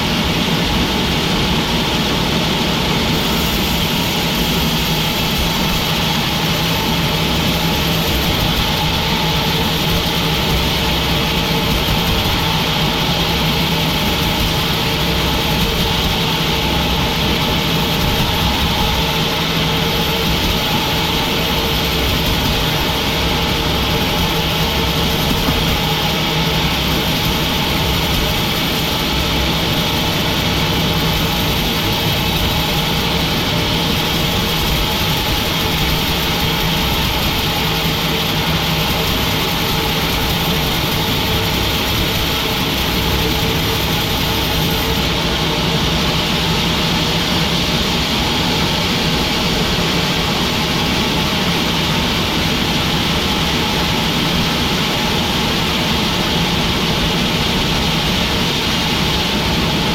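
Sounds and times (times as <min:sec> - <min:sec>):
sawmill machinery drone: 0:00.0 - 0:59.9.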